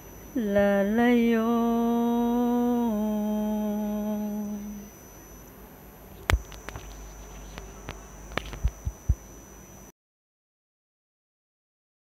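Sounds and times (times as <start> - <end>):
thin high whine: 0.0 - 9.9.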